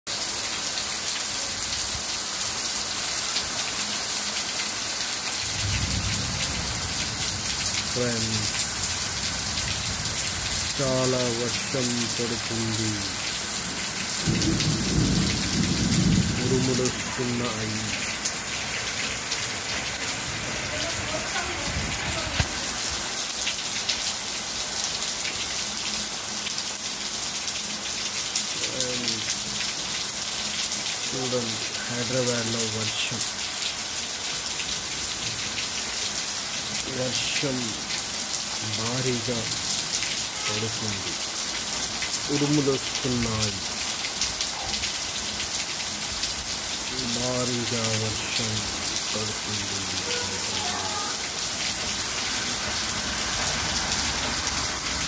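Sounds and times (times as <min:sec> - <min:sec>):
heavy rain pouring: 0:00.1 - 0:55.0.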